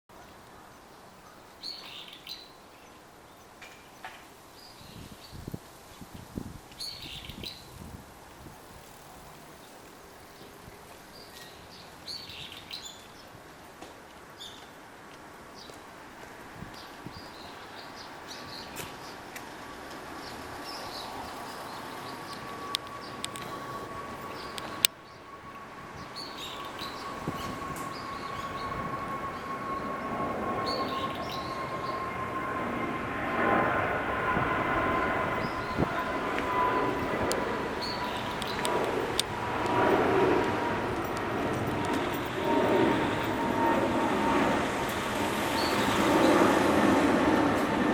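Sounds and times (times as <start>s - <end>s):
faint outdoor background: 0.1s - 47.9s.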